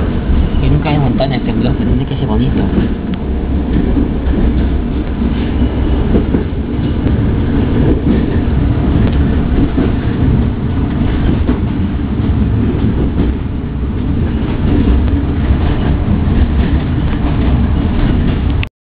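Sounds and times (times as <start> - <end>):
train wheels rumbling on rail: 0.0 - 18.7.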